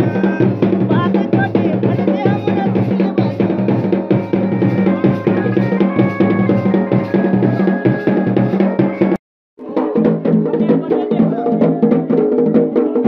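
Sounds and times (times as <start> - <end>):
drums beaten with sticks: 0.0 - 13.0.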